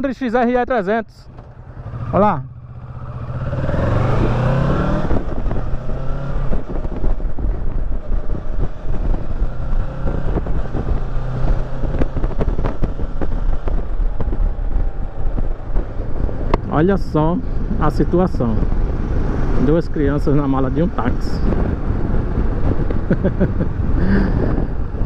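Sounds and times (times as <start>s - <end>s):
motorcycle engine accelerating: 1.2s - 25.0s
wind buffeting microphone: 1.3s - 25.0s.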